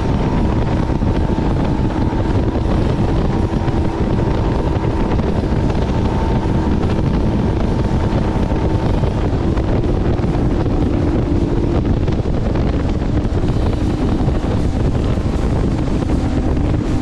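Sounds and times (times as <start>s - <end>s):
outboard motor droning: 0.0s - 17.0s
wind buffeting microphone: 0.0s - 17.0s.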